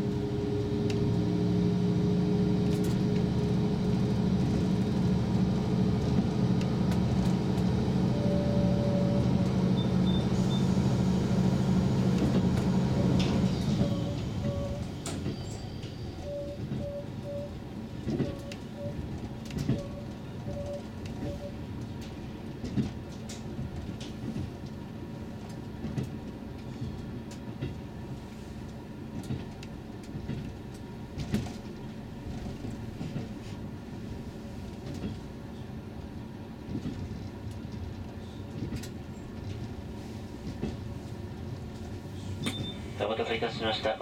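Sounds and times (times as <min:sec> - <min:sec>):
train engine and wheels rumbling: 0:00.0 - 0:44.0.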